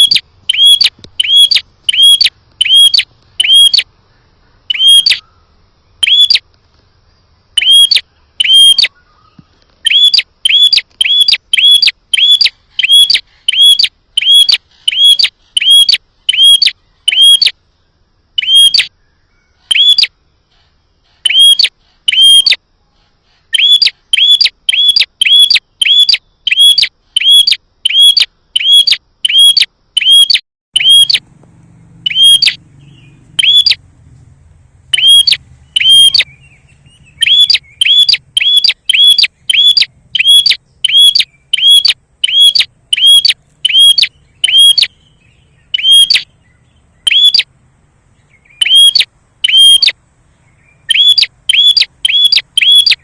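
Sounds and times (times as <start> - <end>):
bird chirping sharply: 0.0 - 3.9, 4.7 - 6.5, 7.5 - 17.6, 18.4 - 20.2, 20.8 - 22.6, 23.3 - 31.3, 32.0 - 33.9, 34.8 - 47.5, 48.1 - 53.0.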